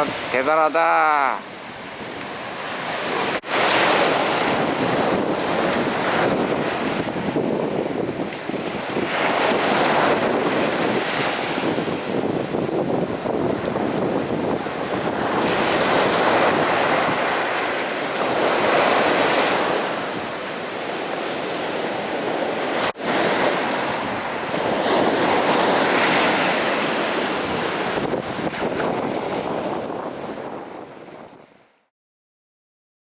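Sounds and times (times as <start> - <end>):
sea waves breaking on beach: 0.0 - 31.6.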